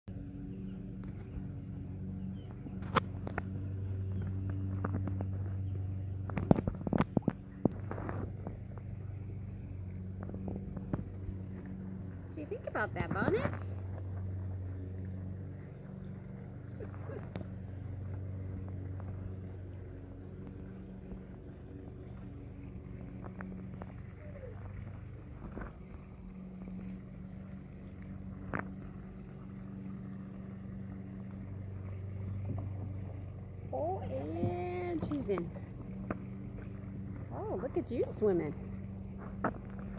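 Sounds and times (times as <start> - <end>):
steady low hum: 0.1 - 39.9.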